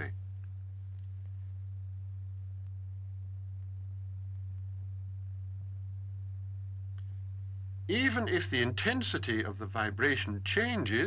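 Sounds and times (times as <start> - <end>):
steady low pure tone: 0.0 - 11.0.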